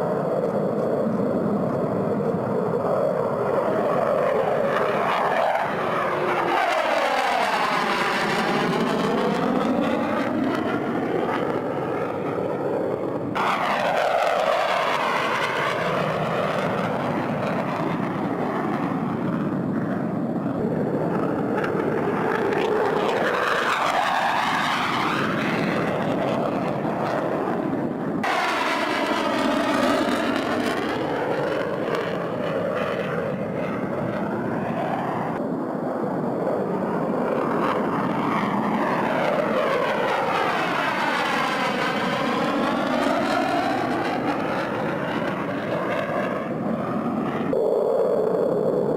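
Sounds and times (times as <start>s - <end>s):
fighter jet engines roaring: 0.0s - 48.9s.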